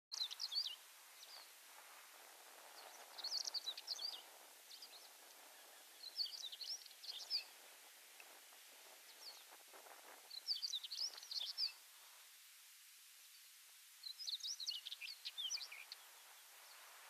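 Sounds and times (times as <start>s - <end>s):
bird chirping: 0.1s - 1.6s, 2.5s - 11.9s, 13.3s - 17.0s
steady background hiss: 0.2s - 17.0s.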